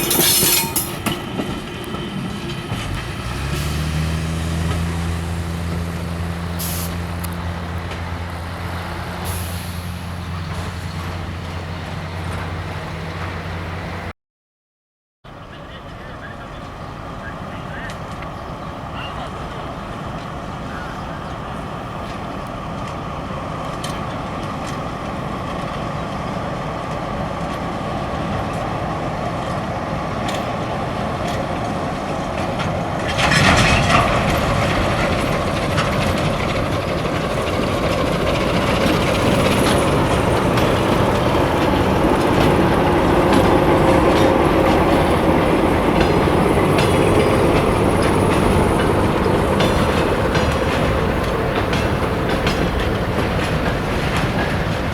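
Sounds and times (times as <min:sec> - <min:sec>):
train passing: 0:00.0 - 0:14.1, 0:15.3 - 0:54.9
wheels clattering over rails: 0:00.0 - 0:14.1, 0:15.4 - 0:54.9.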